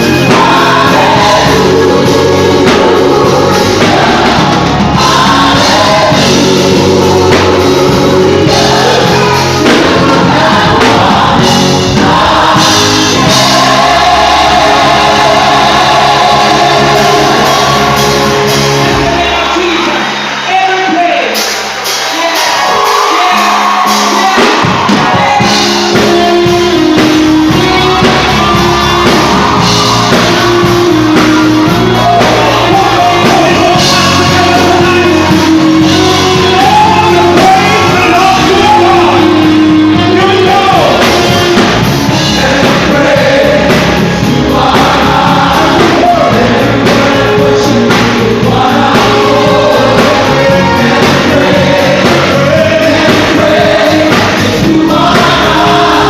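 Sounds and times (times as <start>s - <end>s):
people singing: 0.0s - 19.8s, 22.1s - 56.0s
gospel band playing: 0.0s - 56.0s.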